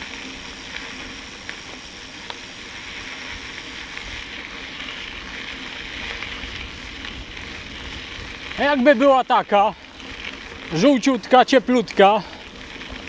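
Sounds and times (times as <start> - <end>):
bike tyres crunching on dirt: 0.0 - 13.0
small bike clicks: 0.0 - 13.0.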